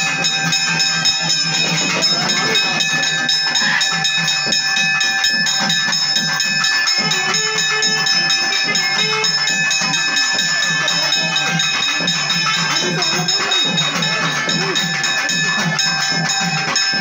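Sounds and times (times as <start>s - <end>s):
rapid drumbeats: 0.0s - 17.0s
steady high ringing tone: 0.0s - 17.0s.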